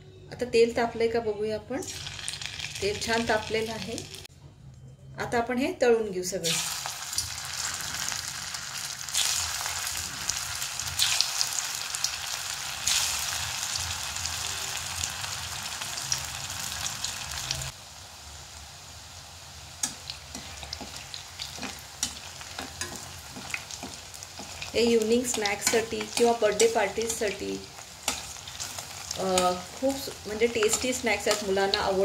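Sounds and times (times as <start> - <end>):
food deep-frying in oil: 1.9 - 4.3, 6.5 - 32.0.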